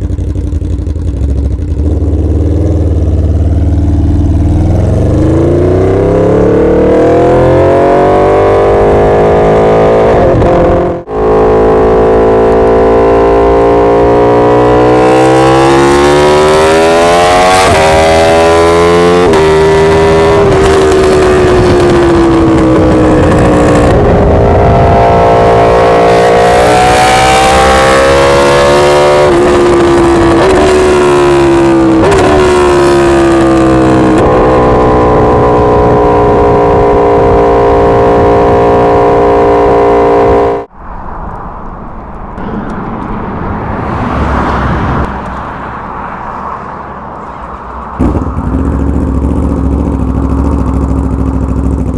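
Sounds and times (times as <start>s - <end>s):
motorcycle engine pulling hard: 0.0s - 40.6s, 47.2s - 51.9s.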